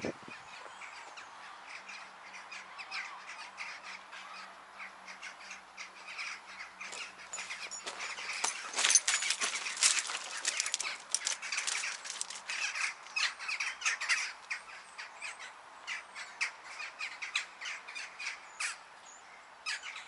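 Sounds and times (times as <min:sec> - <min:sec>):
crows calling: 0:00.4 - 0:18.8.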